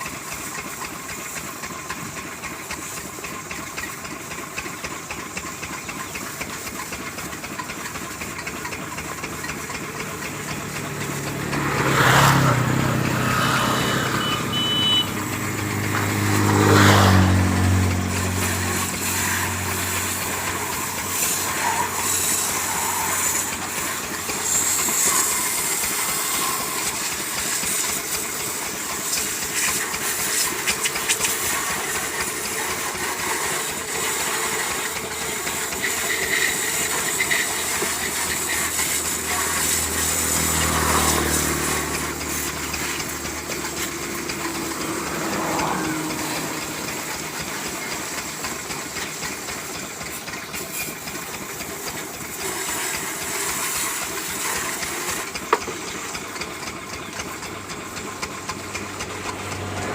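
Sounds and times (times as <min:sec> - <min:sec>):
low engine rumble: 0:00.0 - 0:59.9
water jet spraying: 0:00.0 - 0:59.9.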